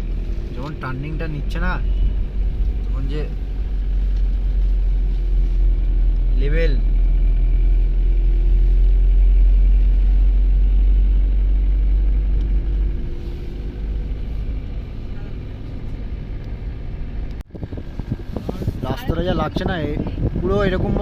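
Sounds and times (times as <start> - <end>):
car engine: 0.0 - 21.0
low road rumble: 0.0 - 21.0.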